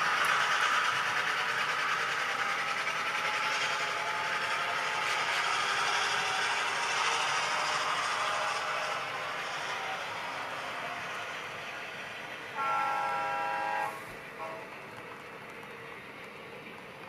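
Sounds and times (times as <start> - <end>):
model train wheels rattling on rails: 0.0 - 17.0.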